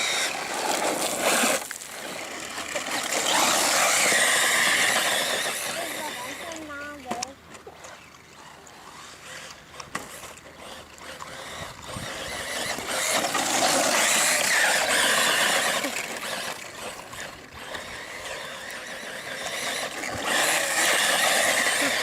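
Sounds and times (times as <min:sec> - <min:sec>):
rc car motor whine: 0:00.0 - 0:22.0.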